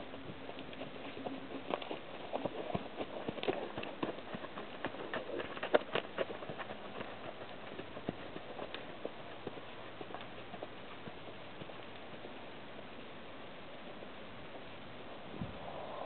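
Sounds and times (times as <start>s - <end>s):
horse hooves walking: 0.0s - 15.2s.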